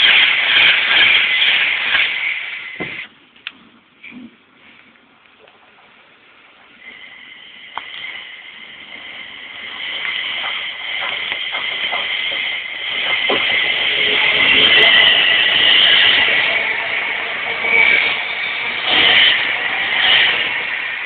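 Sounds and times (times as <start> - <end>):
wheels clicking on rails: 0.0 - 3.1, 6.5 - 21.0
electric train whine: 0.0 - 3.2, 6.7 - 21.0.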